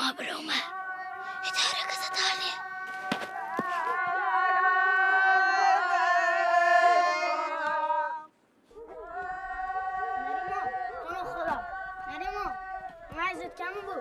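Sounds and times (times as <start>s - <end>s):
women wailing a lament: 0.0s - 8.2s, 8.8s - 14.0s.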